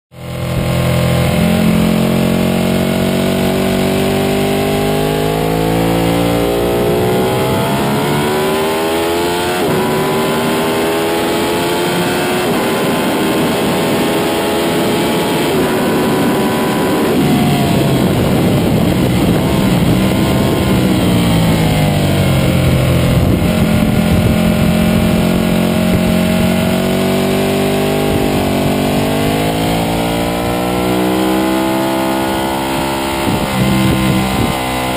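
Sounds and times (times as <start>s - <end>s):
motorcycle engine at full throttle: 0.1s - 34.9s
wind rush: 2.8s - 34.9s.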